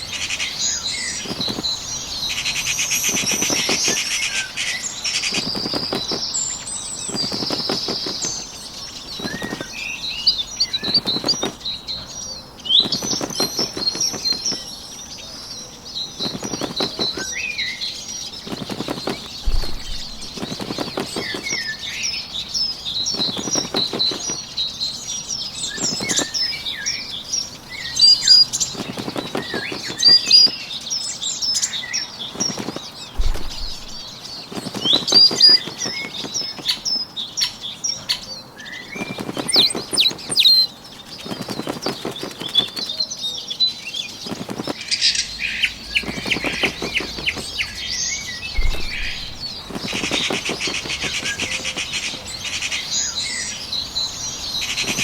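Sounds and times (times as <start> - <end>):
bird wings flapping: 0.0 - 12.0, 12.6 - 15.2, 15.9 - 24.7, 25.6 - 30.6, 31.6 - 36.9, 38.8 - 43.1, 44.0 - 53.5, 54.5 - 55.0
small birds chirping: 0.0 - 55.0.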